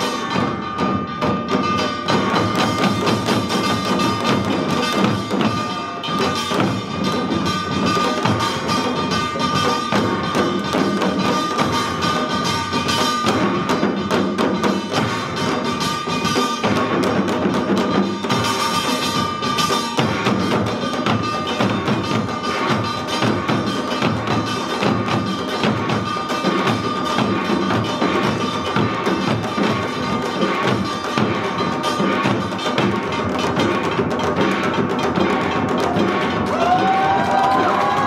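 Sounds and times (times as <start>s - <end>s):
small brass gongs clanging: 0.0s - 37.1s.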